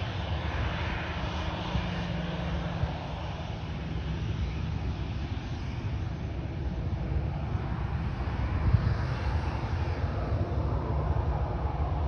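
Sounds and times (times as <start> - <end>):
jet engines at low power: 0.0 - 12.0
low rumble of rolling aircraft: 0.0 - 12.0.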